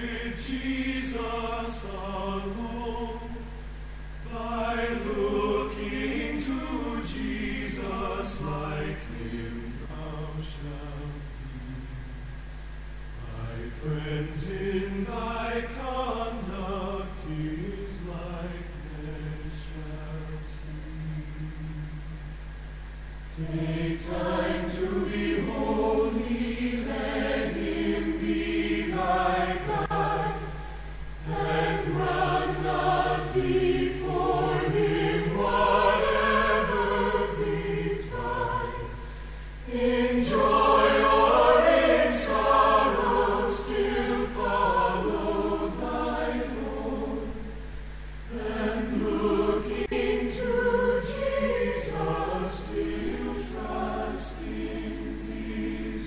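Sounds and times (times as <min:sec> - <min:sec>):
choir singing a hymn: 0:00.0 - 0:12.2, 0:13.1 - 0:22.3, 0:23.2 - 0:56.0.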